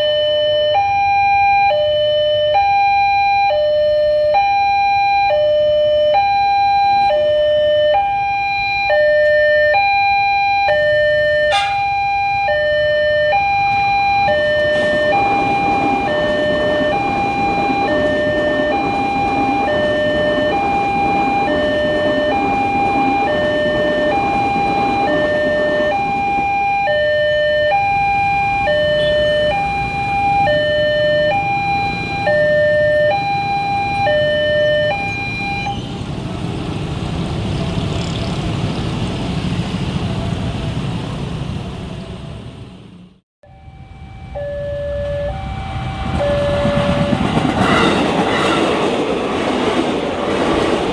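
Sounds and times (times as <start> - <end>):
level-crossing warning siren: 0.0 - 36.8, 43.4 - 50.9.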